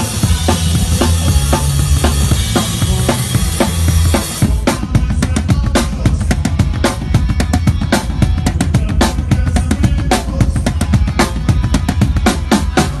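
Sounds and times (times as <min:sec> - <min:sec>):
bass drum and snare beat: 0:00.0 - 0:13.0
rock band playing: 0:00.0 - 0:13.0.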